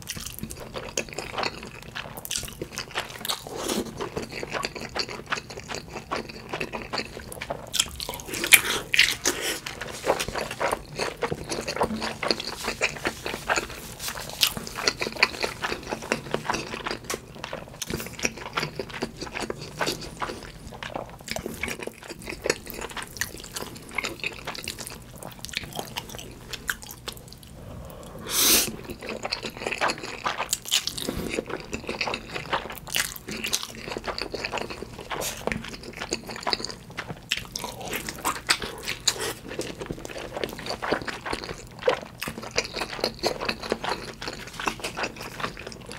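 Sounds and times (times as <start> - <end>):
wet chewing and mouth clicks: 0.0 - 27.6, 28.6 - 45.9.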